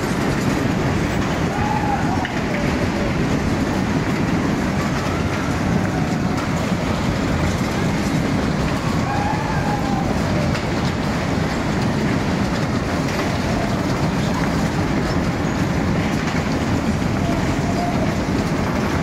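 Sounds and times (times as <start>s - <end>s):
fairground ride cars rumbling: 0.0s - 19.0s.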